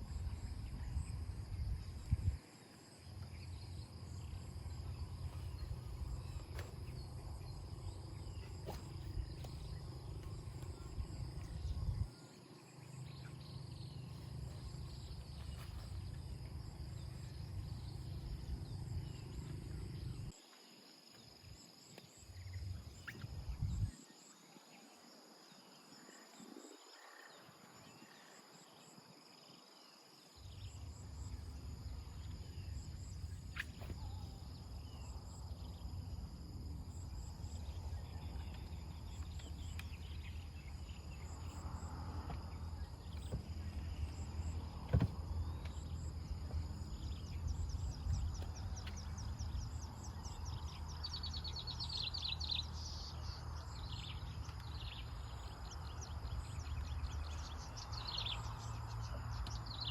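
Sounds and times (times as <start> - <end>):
insect drone: 0.0 - 59.9.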